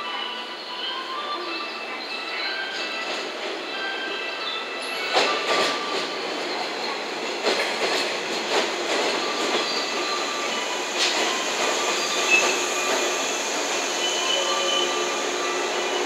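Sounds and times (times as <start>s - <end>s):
train wheels rumbling on rail: 2.8s - 16.0s.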